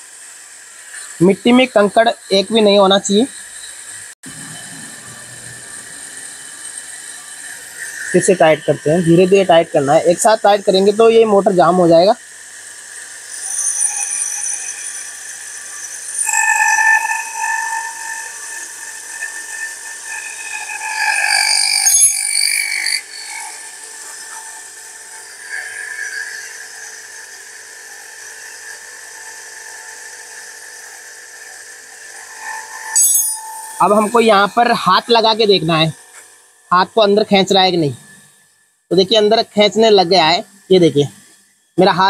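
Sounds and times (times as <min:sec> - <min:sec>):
water pump high-pitched rubbing whine: 0:00.0 - 0:42.0.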